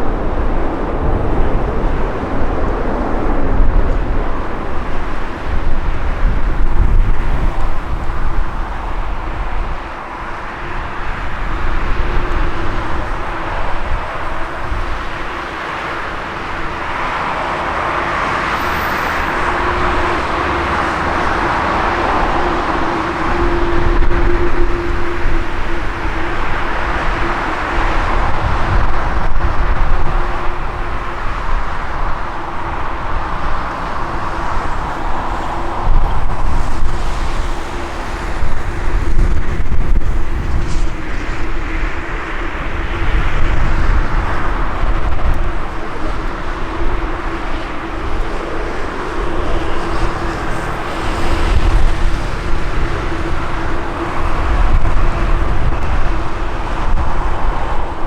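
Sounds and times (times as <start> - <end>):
jet engines roaring: 0.0 - 58.0
wind buffeting microphone: 0.0 - 58.0.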